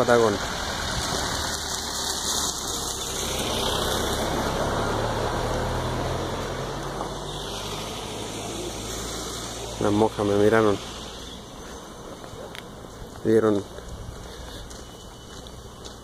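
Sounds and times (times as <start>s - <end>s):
noisy hiss: 0.0s - 13.4s.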